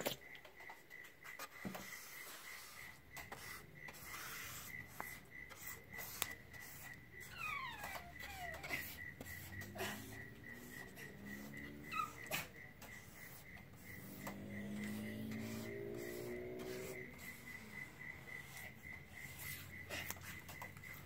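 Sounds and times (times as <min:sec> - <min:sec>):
hand rubbing wooden board: 0:01.2 - 0:21.0.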